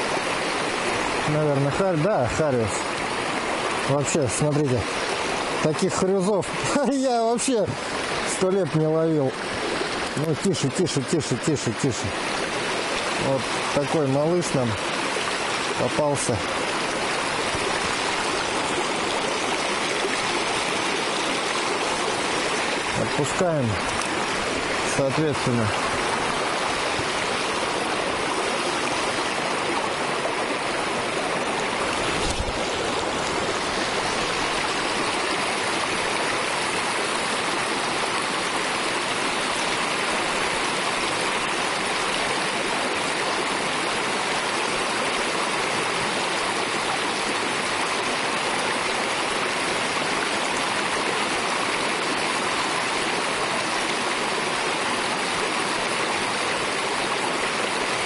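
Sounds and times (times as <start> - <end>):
creek water splashing over stones: 0.0 - 58.0.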